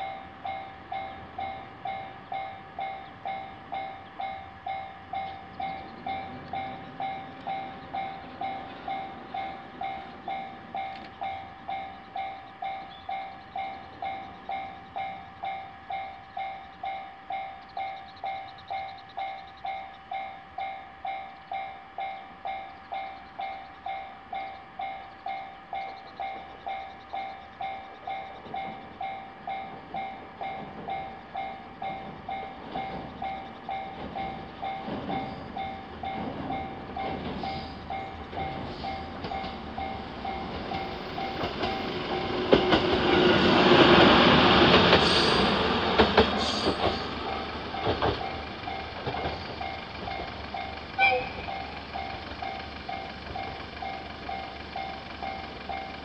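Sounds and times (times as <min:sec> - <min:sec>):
diesel railcar rumble: 0:00.0 - 0:56.0
level-crossing warning bell: 0:00.0 - 0:56.0.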